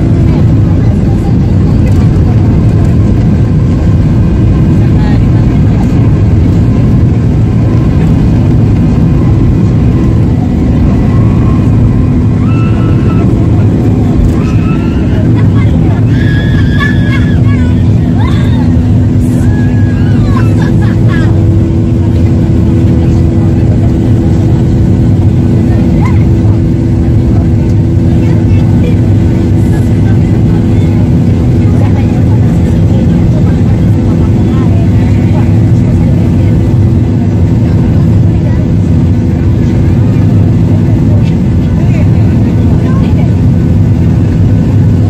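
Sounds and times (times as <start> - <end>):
constant cabin hum: 0.0 - 45.0
jet engines low rumble: 0.0 - 45.0.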